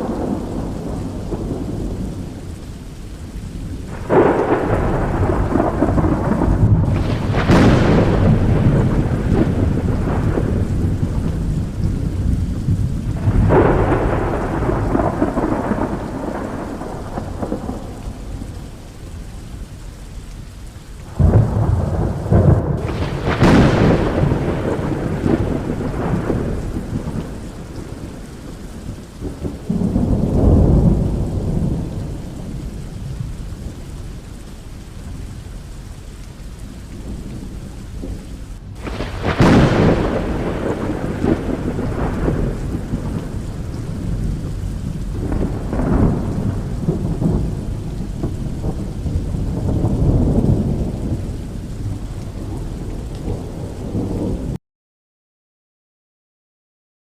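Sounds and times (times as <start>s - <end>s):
thunder claps and rumbles: 0.0s - 20.0s, 20.9s - 35.7s, 36.4s - 54.6s
steady rain: 0.0s - 54.6s.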